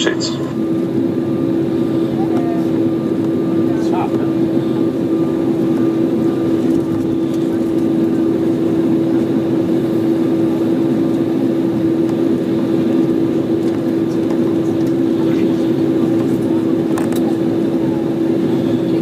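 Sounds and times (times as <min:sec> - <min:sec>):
jet engine droning hum: 0:00.0 - 0:19.0.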